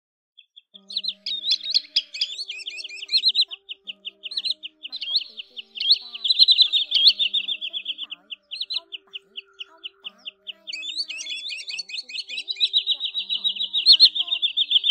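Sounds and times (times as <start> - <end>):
sandpipers whistling calls: 0.8 - 14.9.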